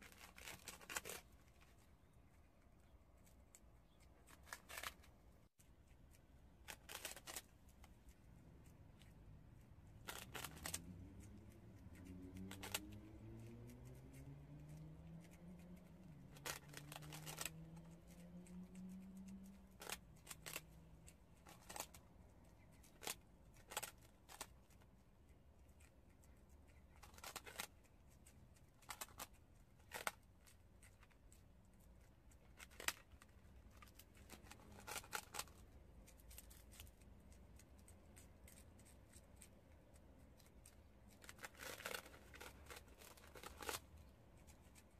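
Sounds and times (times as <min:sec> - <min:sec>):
crisp crunching: 0:00.0 - 0:05.2, 0:06.5 - 0:13.7, 0:14.7 - 0:25.0, 0:25.6 - 0:44.9
faint low hum: 0:00.0 - 0:44.9.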